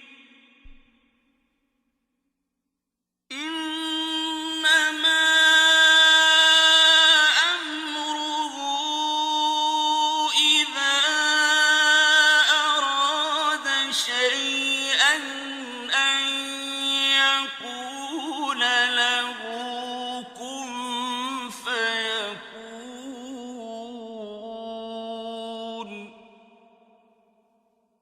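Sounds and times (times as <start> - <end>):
man reciting melodically: 0.0 - 0.8, 3.3 - 26.6.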